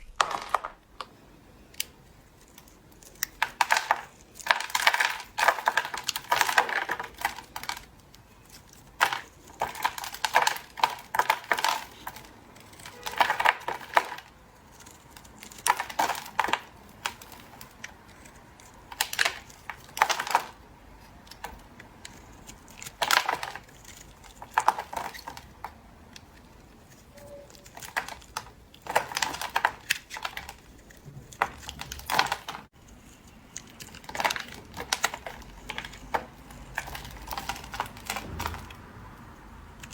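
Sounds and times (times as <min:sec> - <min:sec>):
knife cutting soap crackling: 0:00.1 - 0:39.9.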